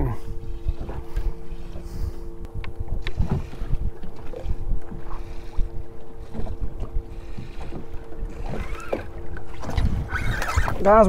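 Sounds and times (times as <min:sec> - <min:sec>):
faint steady hum: 0:00.0 - 0:11.0
water slapping against hull: 0:00.0 - 0:11.0
wind buffeting microphone: 0:00.0 - 0:11.0.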